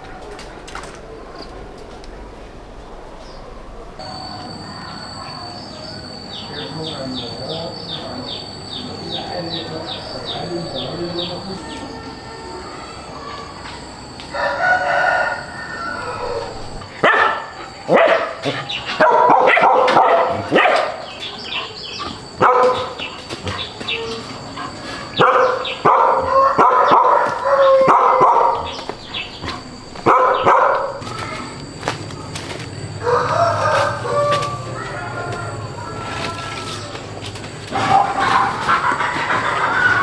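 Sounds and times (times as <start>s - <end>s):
roosters crowing: 4.0s - 40.0s.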